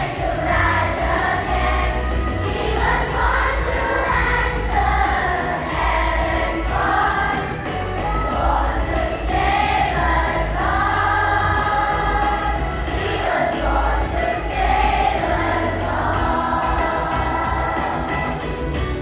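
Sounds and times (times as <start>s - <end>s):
choir singing: 0.0s - 19.0s
steady low bass: 0.0s - 19.0s.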